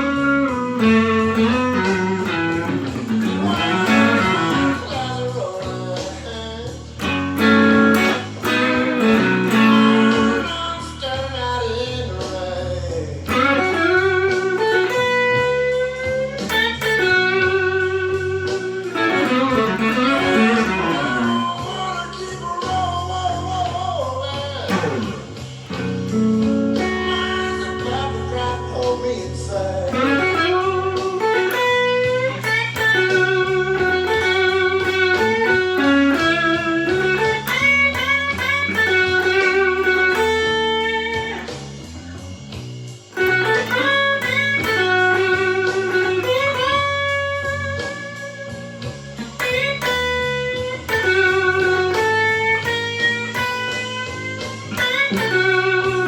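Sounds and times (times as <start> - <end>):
backing track with bass: 0.0 - 56.0
overdriven electric guitar blues lead: 0.0 - 56.0.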